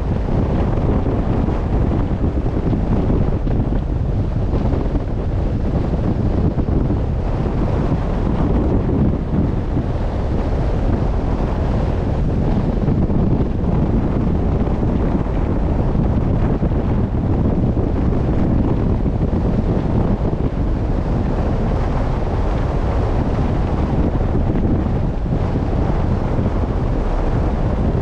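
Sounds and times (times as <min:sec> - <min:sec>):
sea wash: 0:00.0 - 0:28.0
wind buffeting microphone: 0:00.0 - 0:28.0.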